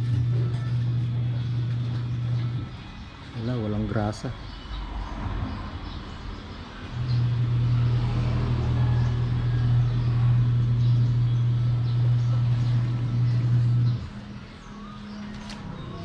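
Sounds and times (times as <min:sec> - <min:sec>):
low mechanical hum: 0:00.0 - 0:03.9, 0:06.6 - 0:16.0.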